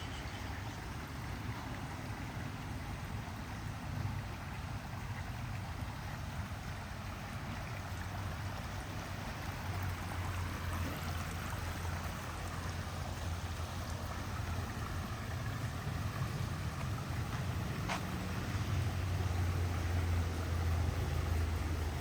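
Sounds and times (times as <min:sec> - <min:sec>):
small stream flowing: 0:00.0 - 0:22.0.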